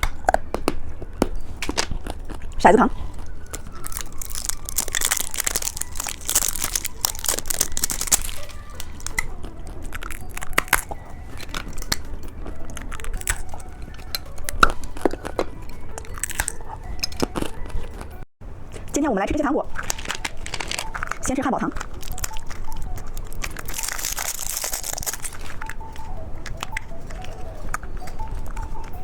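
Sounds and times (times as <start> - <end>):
plastic wrappers crinkling: 0.0 - 18.2, 19.6 - 29.0
hard candy crunching: 0.0 - 18.9, 19.6 - 29.0.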